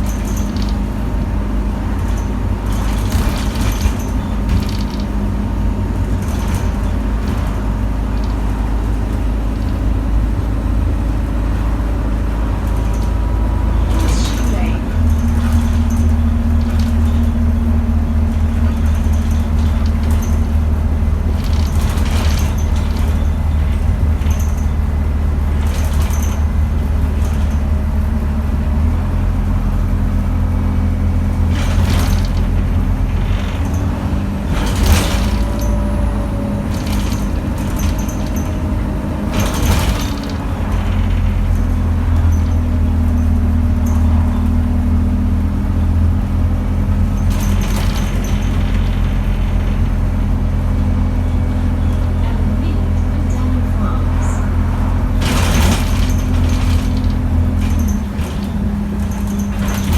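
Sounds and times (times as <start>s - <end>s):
bus engine humming: 0.0s - 59.9s
short rattles and knocks: 0.0s - 59.9s.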